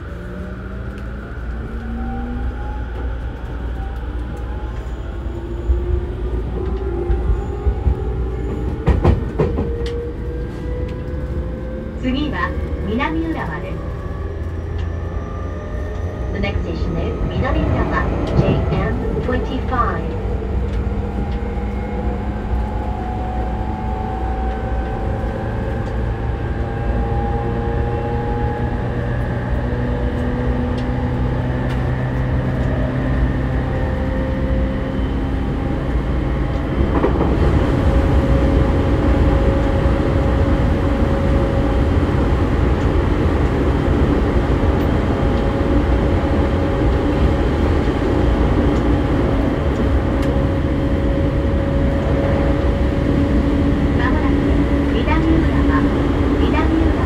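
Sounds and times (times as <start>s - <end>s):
train rumbling running noise: 0.0s - 57.0s.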